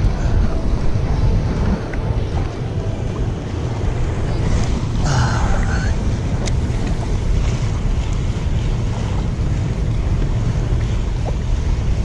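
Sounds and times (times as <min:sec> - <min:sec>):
water lapping at seawall: 0:00.0 - 0:12.0
wind buffeting microphone: 0:00.0 - 0:12.0.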